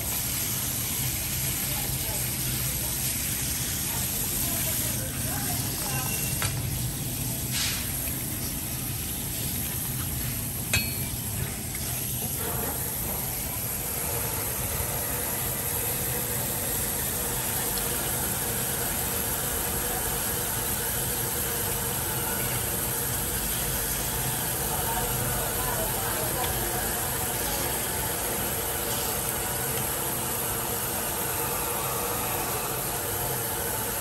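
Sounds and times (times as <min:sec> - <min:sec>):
tap water running: 0:00.0 - 0:34.0.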